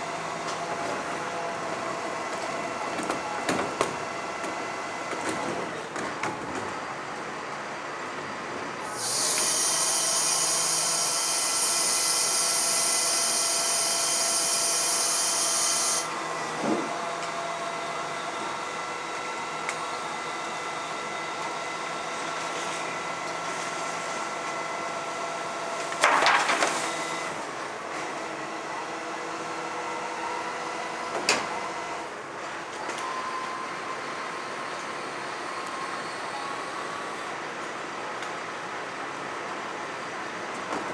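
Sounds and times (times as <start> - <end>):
truck engine and hydraulics hum: 0.0 - 40.9.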